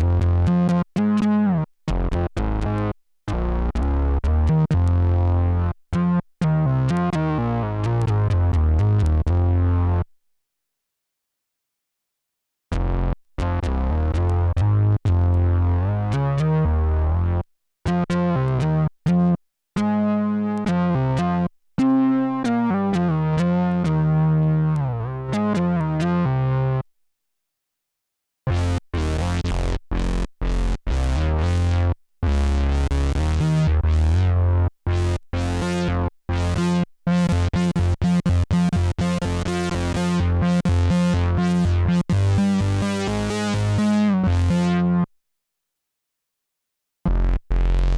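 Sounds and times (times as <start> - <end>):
synth bass riff: 0.0 - 10.1, 12.7 - 26.9, 28.5 - 45.1, 47.1 - 47.9.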